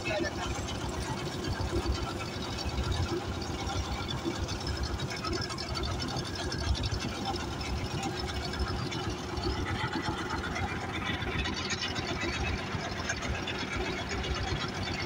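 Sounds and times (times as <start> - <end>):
small engine running with rattle: 0.0 - 15.0.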